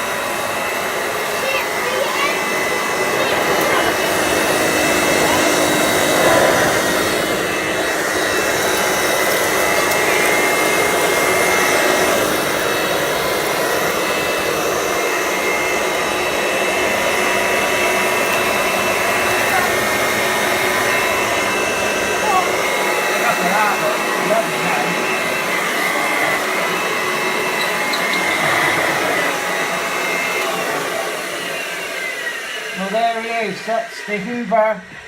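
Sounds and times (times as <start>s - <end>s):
vacuum cleaner running on carpet: 0.0s - 35.0s.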